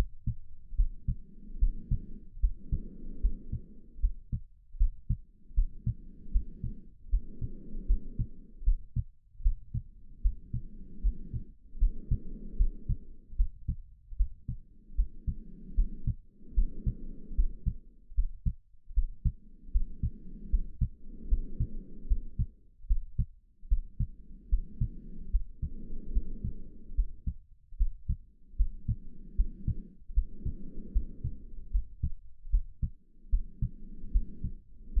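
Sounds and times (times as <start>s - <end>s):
heartbeat thumping: 0.0s - 35.0s
slow breathing: 0.0s - 35.0s.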